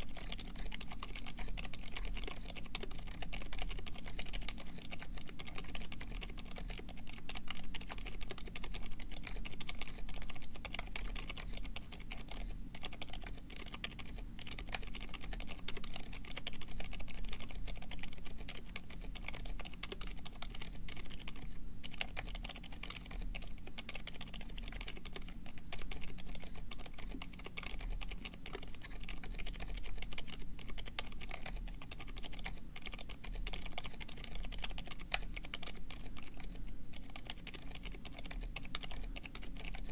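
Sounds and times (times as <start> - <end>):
faint low hum: 0.0 - 39.9
soft keyboard typing: 0.0 - 39.9.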